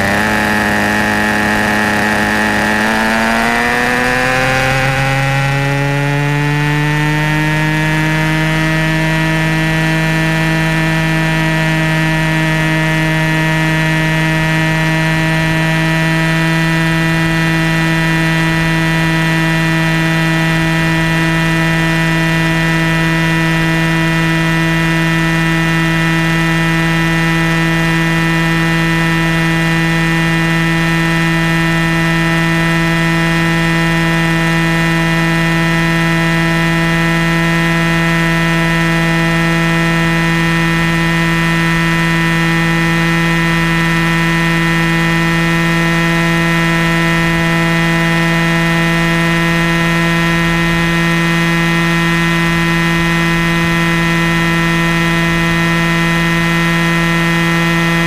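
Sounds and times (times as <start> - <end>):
rc helicopter motor and rotor drone: 0.0 - 58.0.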